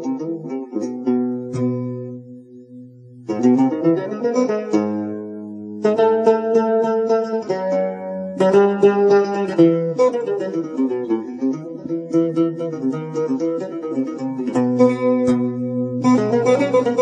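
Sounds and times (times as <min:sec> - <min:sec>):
plucked string instruments: 0:00.0 - 0:17.0.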